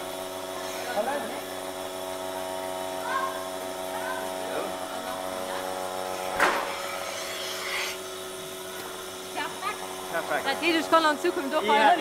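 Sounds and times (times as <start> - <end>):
milking machine vacuum pump hum: 0.0 - 12.0.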